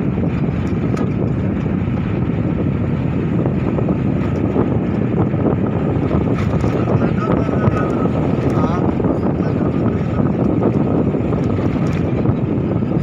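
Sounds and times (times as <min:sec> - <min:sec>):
vehicle rumble: 0:00.0 - 0:13.0
wind buffeting microphone: 0:00.0 - 0:13.0.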